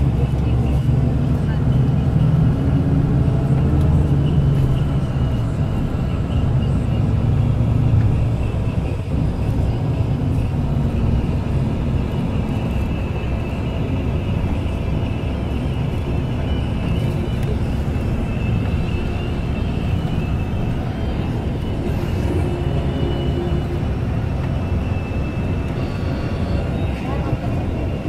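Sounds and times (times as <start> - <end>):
vehicle engine and road noise: 0.0 - 28.0.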